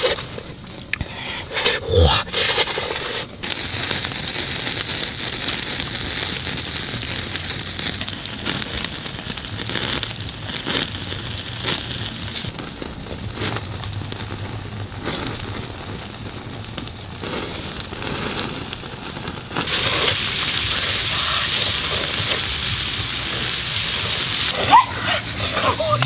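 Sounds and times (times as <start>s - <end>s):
food sizzling over open fire: 0.0s - 26.0s.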